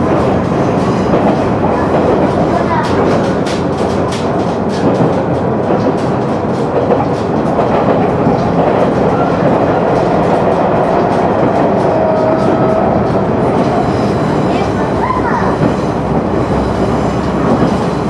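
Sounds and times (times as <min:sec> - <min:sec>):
train engine and wheels rumbling: 0:00.0 - 0:18.0.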